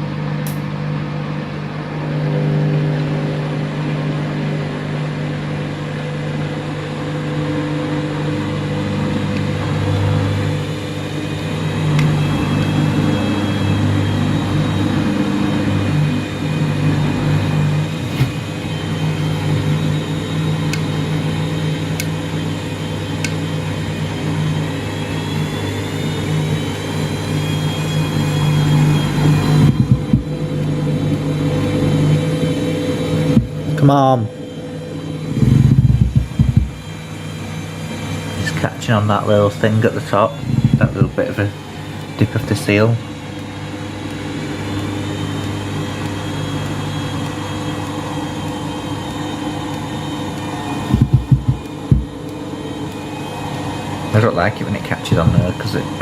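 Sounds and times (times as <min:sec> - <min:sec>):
high whine rising in pitch: 0:00.0 - 0:56.0
washing machine motor hum: 0:00.0 - 0:56.0.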